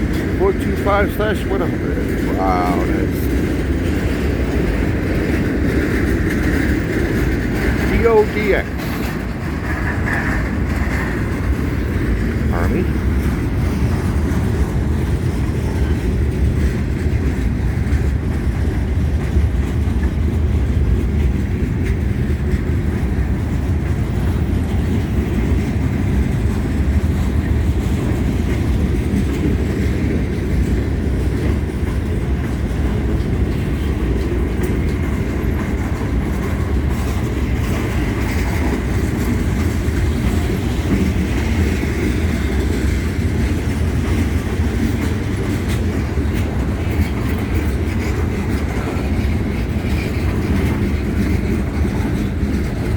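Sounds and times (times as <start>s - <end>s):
train wheels rolling on rails: 0.0s - 52.9s.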